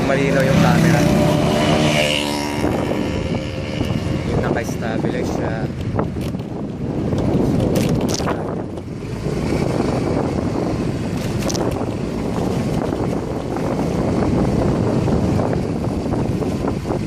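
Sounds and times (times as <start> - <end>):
motorcycle engine and road rumble: 0.0 - 17.0
wind buffeting microphone: 0.0 - 17.0.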